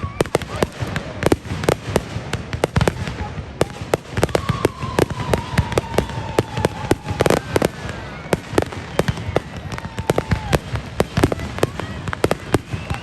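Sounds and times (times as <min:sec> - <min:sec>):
fireworks bangs and pops: 0:00.0 - 0:13.0
fireworks whistling: 0:00.0 - 0:13.0.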